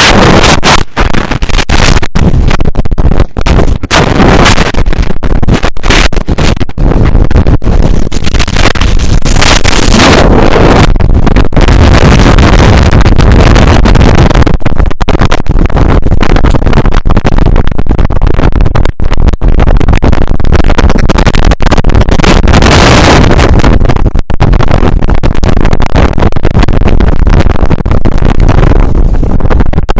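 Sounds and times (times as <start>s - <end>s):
strong wind on microphone: 0.0s - 29.9s.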